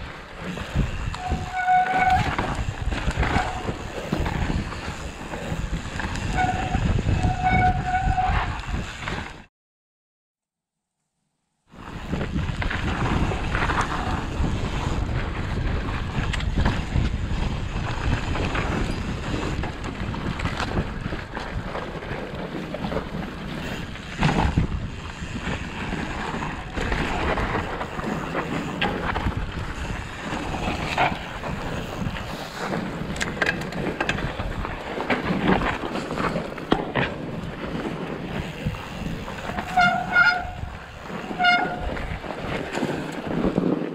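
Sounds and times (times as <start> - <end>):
wind buffeting microphone: 0.0 - 9.3, 11.8 - 43.9
bike tyre noise: 0.0 - 9.5, 11.7 - 43.9.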